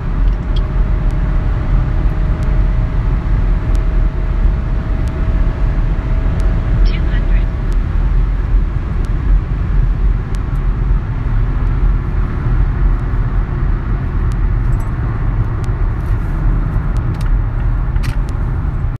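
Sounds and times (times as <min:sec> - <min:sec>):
road and wind noise rumble: 0:00.0 - 0:19.0.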